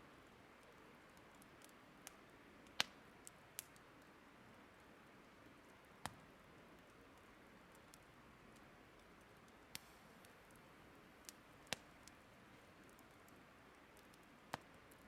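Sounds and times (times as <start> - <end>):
soft fire hiss: 0.0 - 15.0
burning wood pops and snaps: 0.6 - 4.1, 5.6 - 15.0.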